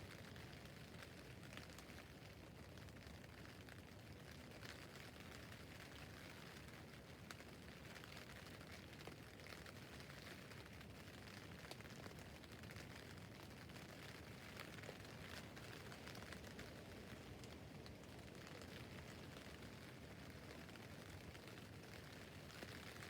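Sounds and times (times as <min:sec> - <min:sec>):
rain on a tent roof: 0:00.0 - 0:23.0.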